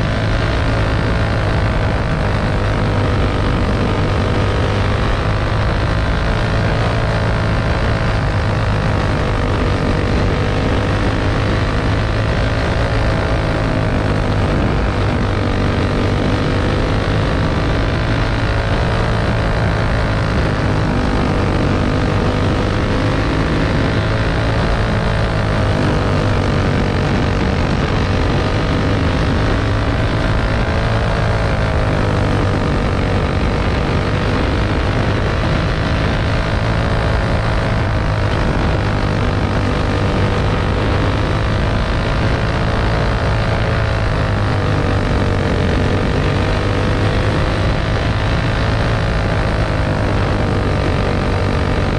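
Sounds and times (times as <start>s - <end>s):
racing buggy engine revving: 0.0s - 51.9s
wind noise: 0.0s - 51.9s.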